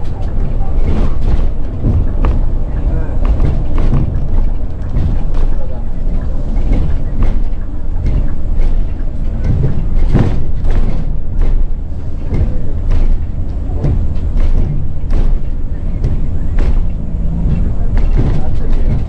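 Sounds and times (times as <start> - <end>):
knocks and rattles: 0.0 - 19.0
vehicle rumbling: 0.0 - 19.0.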